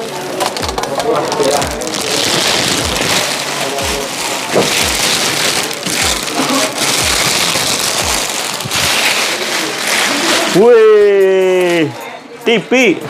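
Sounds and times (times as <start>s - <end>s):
plastic sheeting crinkling: 0.0s - 12.0s.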